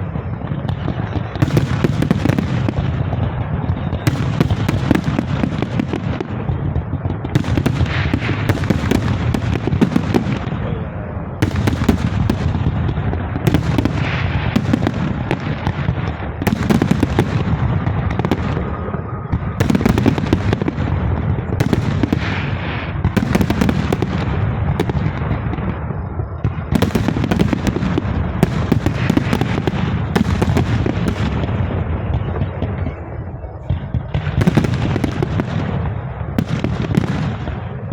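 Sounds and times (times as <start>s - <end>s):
fireworks bangs: 0.0s - 37.9s
fireworks crackling: 0.0s - 37.9s.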